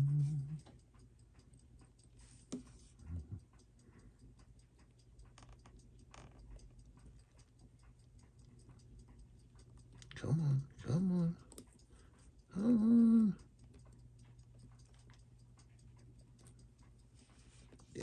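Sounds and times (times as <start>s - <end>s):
clock ticking: 0.0s - 18.0s.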